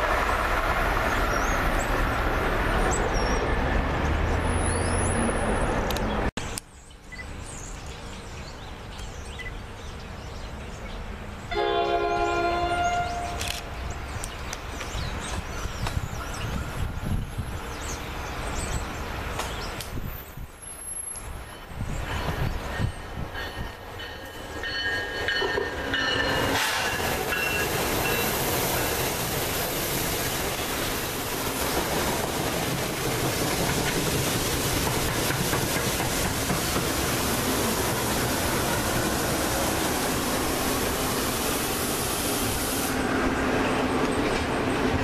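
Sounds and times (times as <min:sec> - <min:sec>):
train passing at speed: 0:00.0 - 0:45.0.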